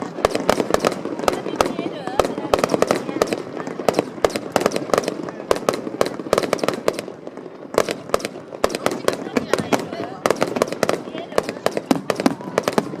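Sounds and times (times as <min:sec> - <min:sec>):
fireworks cracking and popping: 0:00.0 - 0:13.0.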